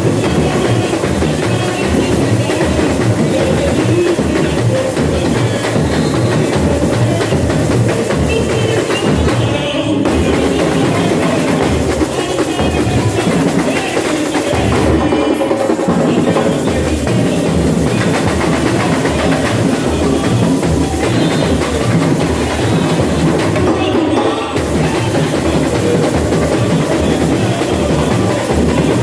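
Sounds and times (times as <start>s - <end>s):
bass drum beats: 0.0s - 29.0s
higher percussion: 0.0s - 29.0s.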